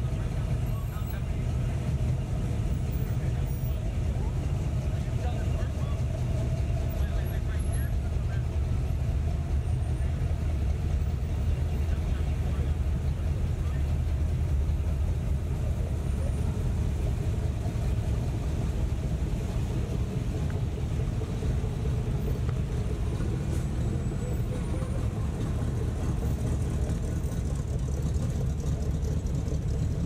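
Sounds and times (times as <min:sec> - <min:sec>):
pickup engines rumbling: 0:00.0 - 0:30.0.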